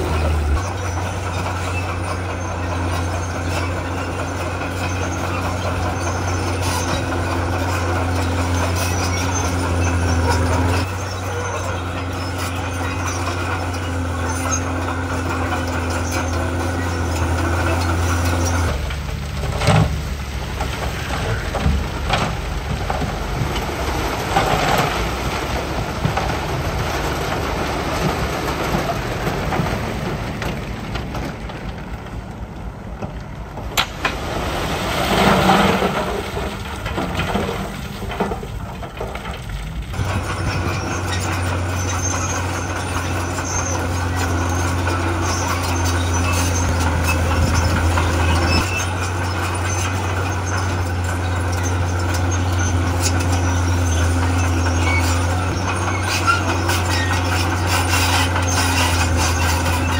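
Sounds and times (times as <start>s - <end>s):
diesel engine humming: 0.0s - 59.9s
rough rumble with knocks: 0.0s - 59.9s.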